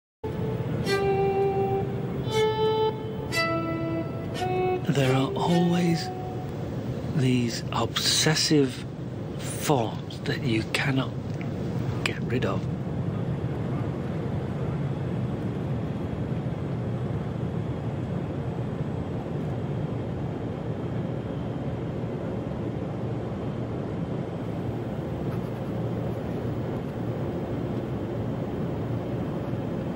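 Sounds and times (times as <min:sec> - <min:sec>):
aircraft cabin rumble: 0:00.2 - 0:29.9
faint steady tones: 0:00.2 - 0:29.9.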